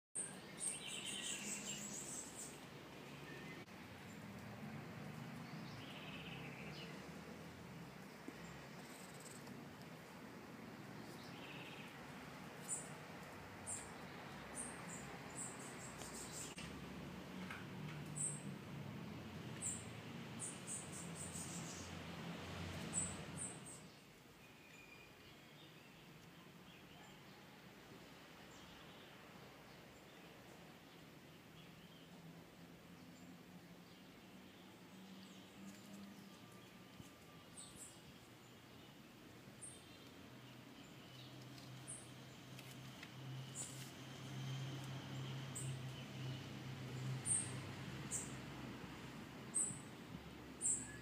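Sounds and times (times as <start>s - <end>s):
small birds chirping: 0.2s - 16.7s, 17.4s - 22.1s, 22.8s - 27.5s, 33.0s - 48.4s, 49.0s - 51.0s.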